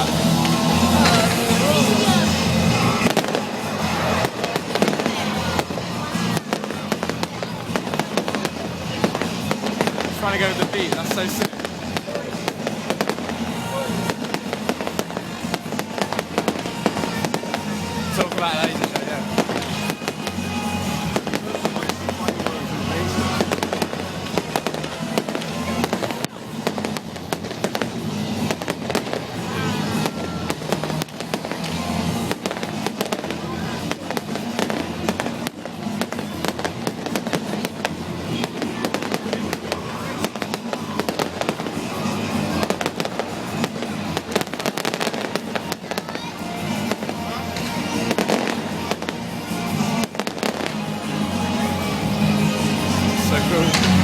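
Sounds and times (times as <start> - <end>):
fireworks bangs and crackles: 0.0 - 54.0
music playing: 0.0 - 54.0.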